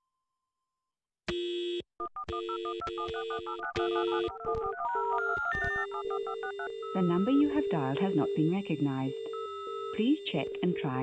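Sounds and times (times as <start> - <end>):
telephone dial tone: 2.0 - 11.0
touch-tone dialing beeps: 2.1 - 11.0.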